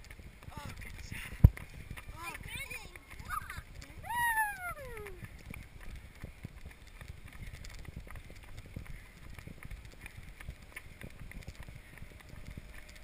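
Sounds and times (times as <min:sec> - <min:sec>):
running footsteps on asphalt: 0:00.0 - 0:13.0.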